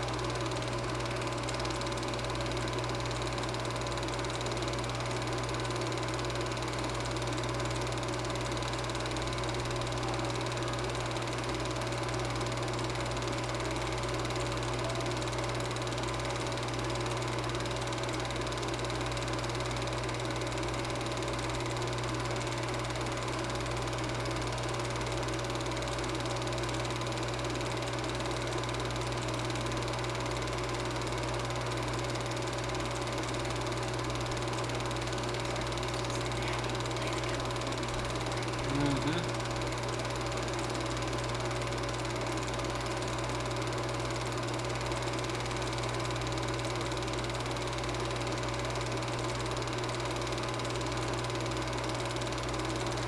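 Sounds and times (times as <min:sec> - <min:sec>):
film projector motor humming: 0:00.0 - 0:53.0.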